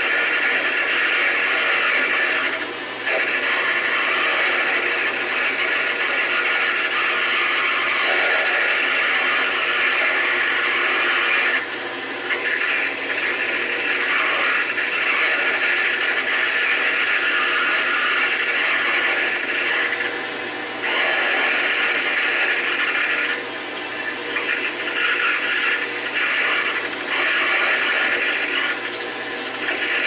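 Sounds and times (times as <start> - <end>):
metal lathe cutting tool scraping: 0.0 - 20.2, 20.8 - 30.0.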